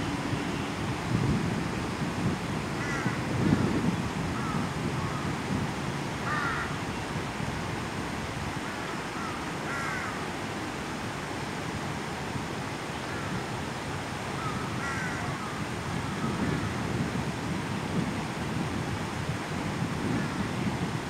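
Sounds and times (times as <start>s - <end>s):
fast-flowing river rushing: 0.0s - 21.0s.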